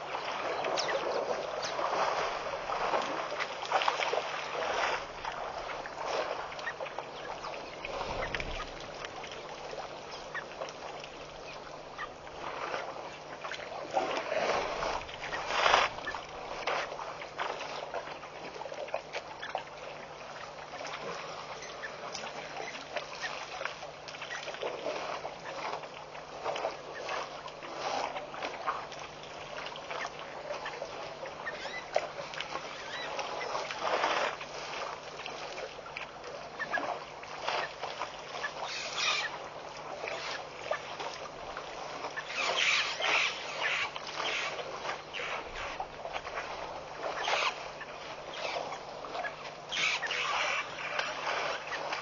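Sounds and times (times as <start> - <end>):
water sloshing and splashing: 0.0 - 52.0.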